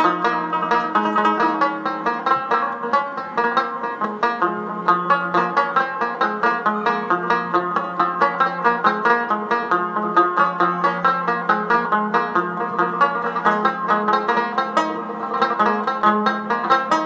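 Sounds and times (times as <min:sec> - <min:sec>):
upbeat plucked-string music: 0:00.0 - 0:17.0.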